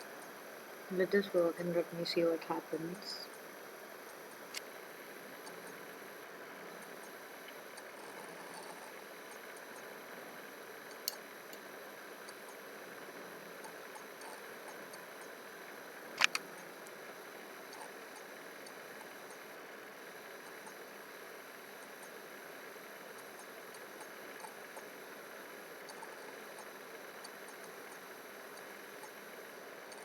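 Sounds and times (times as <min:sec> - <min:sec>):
low background hiss: 0:00.0 - 0:30.0.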